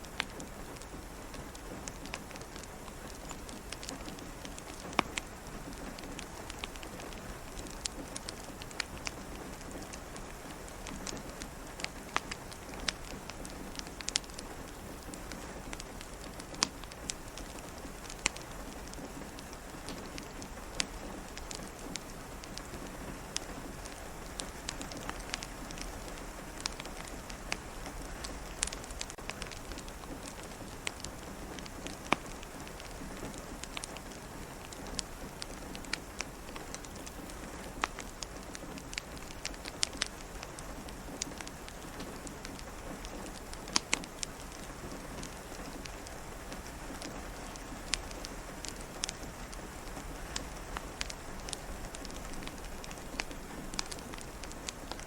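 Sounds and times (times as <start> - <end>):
crackling wood fire: 0.0 - 55.0
rain pattering on a window: 0.0 - 55.0.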